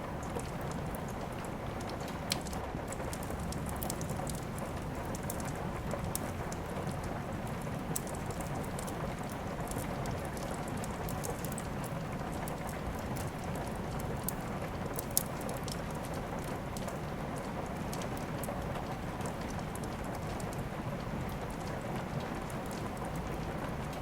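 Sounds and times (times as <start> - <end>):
steady rain: 0.0 - 24.0
wood fire crackling and popping: 0.0 - 24.0.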